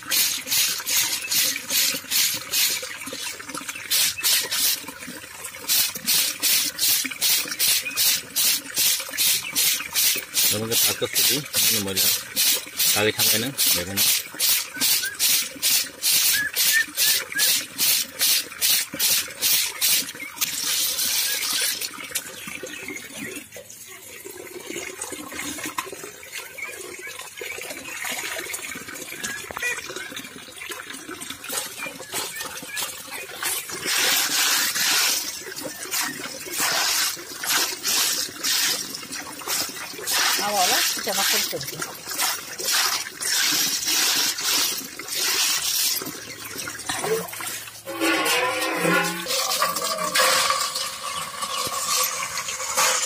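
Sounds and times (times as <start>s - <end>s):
water splashing: 0.0s - 23.6s, 24.3s - 53.0s.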